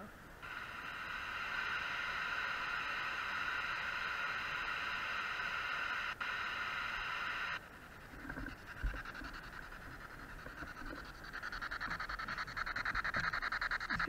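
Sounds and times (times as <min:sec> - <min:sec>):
radio static hissing: 0:00.0 - 0:14.0.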